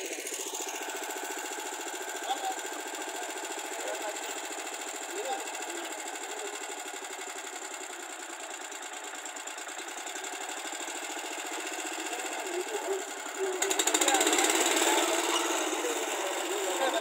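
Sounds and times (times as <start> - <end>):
tractor engine running and revving: 0.0 - 17.0.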